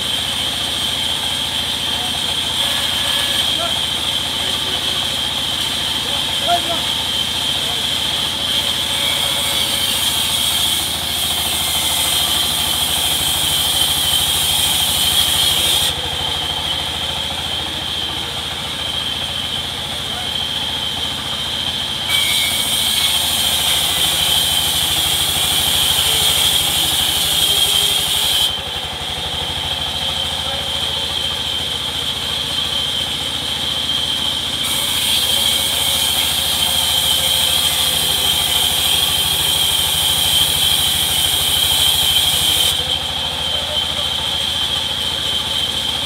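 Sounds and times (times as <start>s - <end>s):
saw blade hissing through wood: 0.0s - 29.1s, 30.2s - 45.0s
band saw whining: 0.0s - 46.0s.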